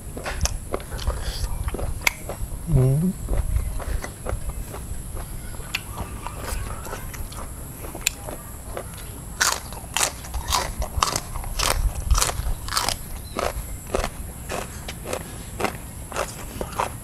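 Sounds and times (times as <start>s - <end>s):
crunchy food chewing: 0.0s - 17.0s.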